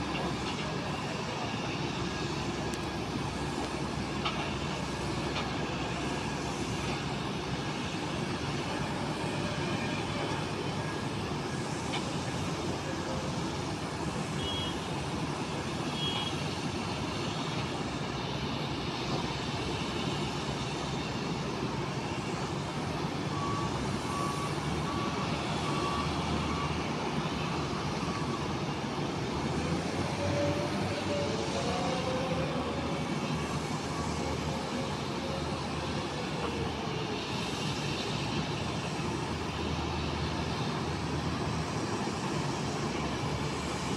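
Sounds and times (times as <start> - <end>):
jet airliners rumbling: 0.0 - 43.9.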